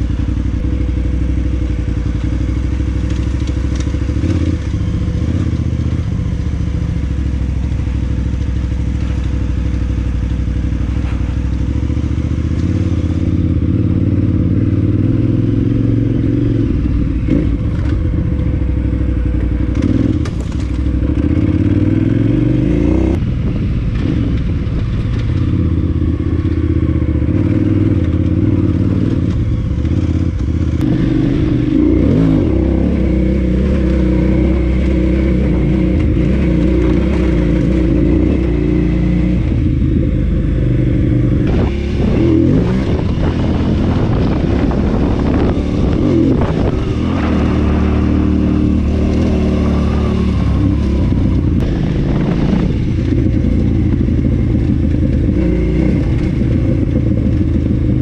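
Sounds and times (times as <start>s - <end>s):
knocks and rattles from motorcycle: 0.0s - 15.3s, 16.4s - 22.3s, 23.1s - 33.0s, 33.6s - 58.0s
motorcycle engine running: 0.0s - 58.0s.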